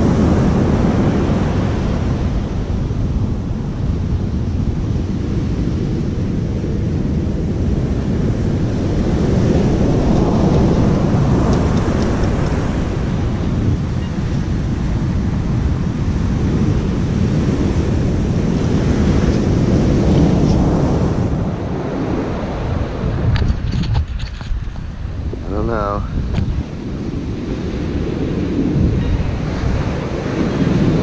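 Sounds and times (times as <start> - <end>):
heavy ocean surf: 0.0 - 31.0
wind rumbling on microphone: 0.0 - 31.0.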